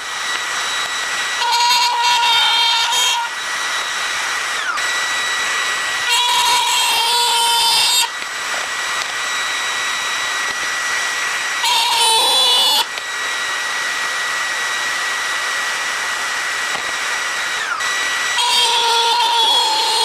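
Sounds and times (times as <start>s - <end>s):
power tool cutting wood: 0.0s - 20.0s
power tool motor whining: 0.0s - 20.0s.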